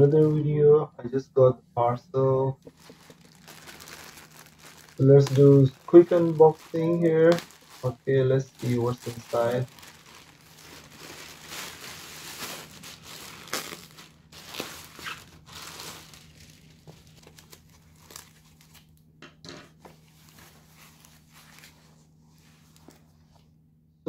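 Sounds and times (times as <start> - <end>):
plastic packaging crinkling: 2.6 - 19.0, 19.8 - 23.0.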